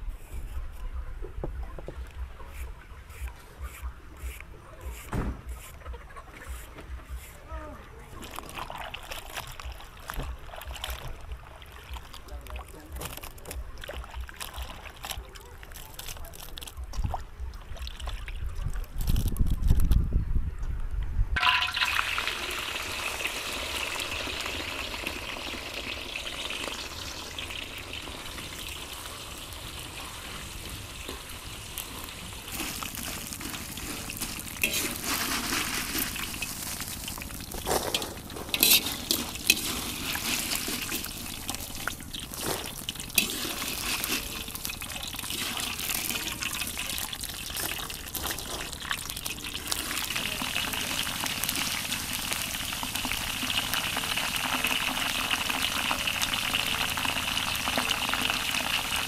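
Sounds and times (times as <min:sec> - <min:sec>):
liquid trickling and splashing: 0:08.1 - 0:19.2, 0:21.4 - 0:59.0.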